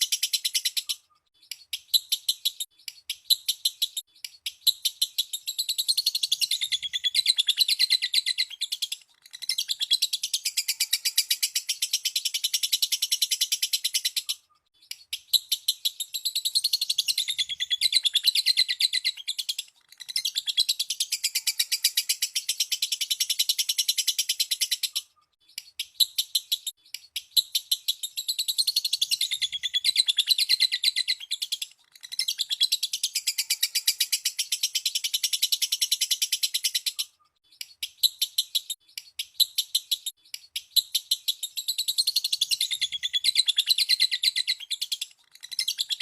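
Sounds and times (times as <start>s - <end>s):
lovebird chattering chirps: 0.0s - 46.0s.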